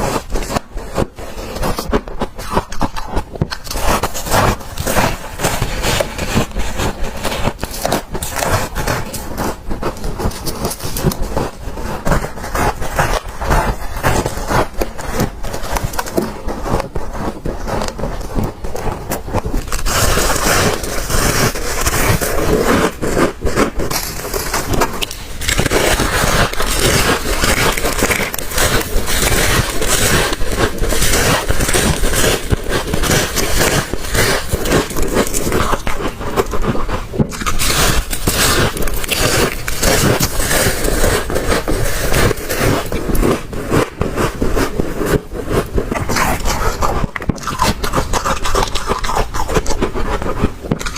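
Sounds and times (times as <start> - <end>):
crunching and chewing frost: 0.0 - 50.9.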